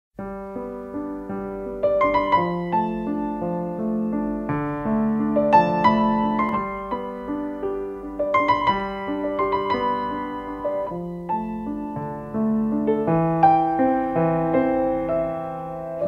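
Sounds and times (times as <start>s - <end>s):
piano music: 0.2s - 16.0s.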